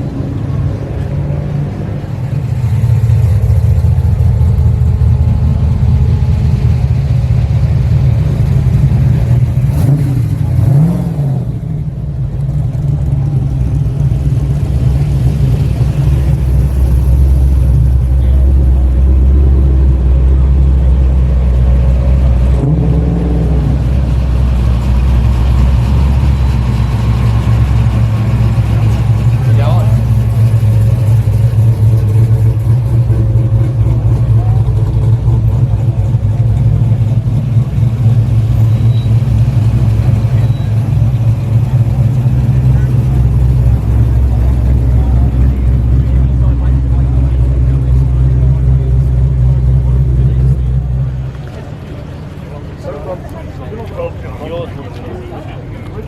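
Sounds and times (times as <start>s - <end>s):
car engines rumbling: 0.0s - 56.0s
engine throttle blips: 1.7s - 56.0s.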